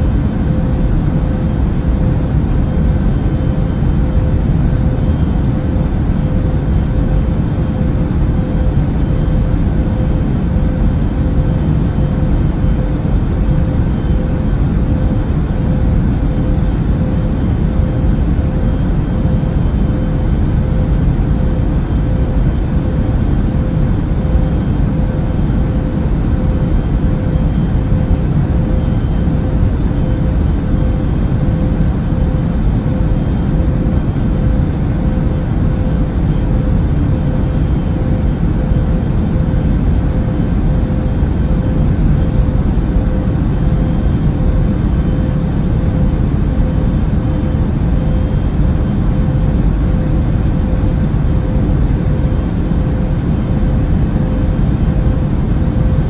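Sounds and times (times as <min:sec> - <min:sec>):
engine and airflow rush: 0:00.0 - 0:56.0
faint steady hum: 0:00.0 - 0:56.0.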